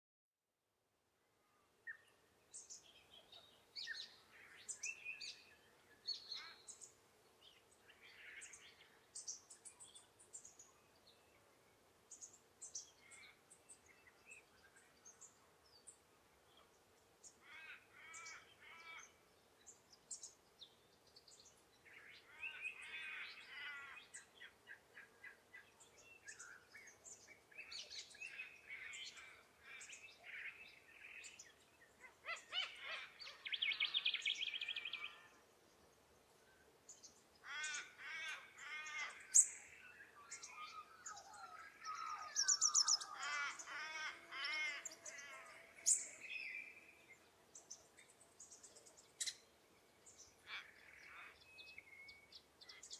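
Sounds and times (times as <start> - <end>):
birds calling and chattering: 1.9 - 52.9.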